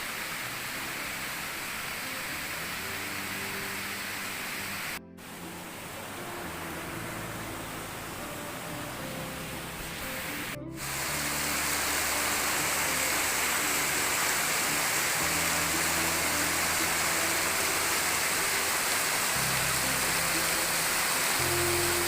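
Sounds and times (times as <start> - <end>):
waterfall pouring: 0.0 - 22.0
music of low held notes: 0.2 - 22.0.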